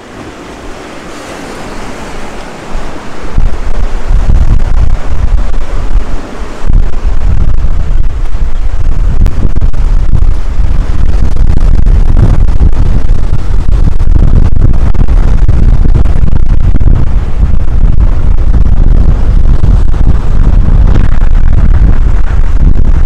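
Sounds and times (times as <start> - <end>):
surf hissing on beach: 0.0 - 23.0
wind buffeting microphone: 0.0 - 23.0.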